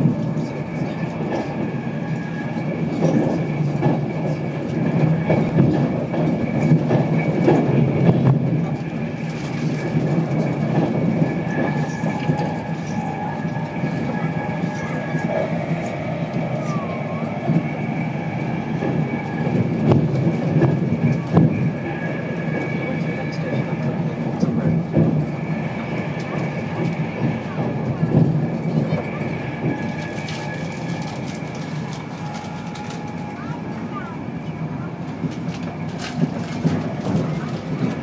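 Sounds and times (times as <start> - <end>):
wheels rumbling on rail: 0.0 - 38.0.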